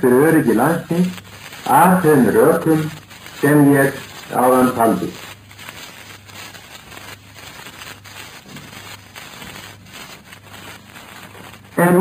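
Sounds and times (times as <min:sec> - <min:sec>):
recording hiss and crackle: 0:00.0 - 0:12.0
scattered clicks: 0:00.0 - 0:12.0.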